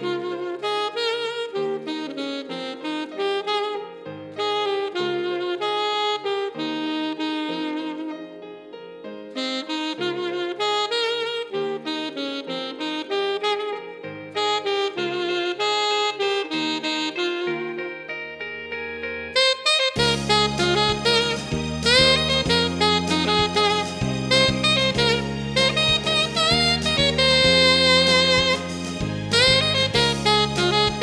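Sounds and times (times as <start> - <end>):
alto saxophone melody: 0.0 - 31.0.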